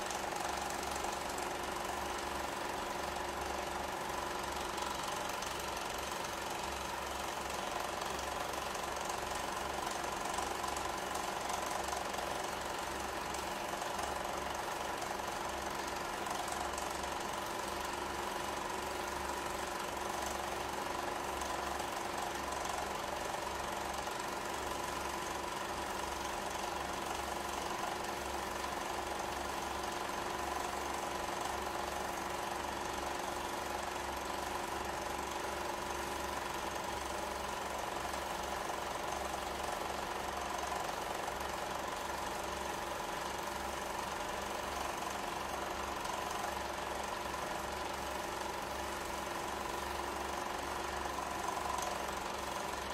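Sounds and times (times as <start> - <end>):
fast mechanical clatter: 0.0 - 52.9
small machine running: 0.0 - 52.9.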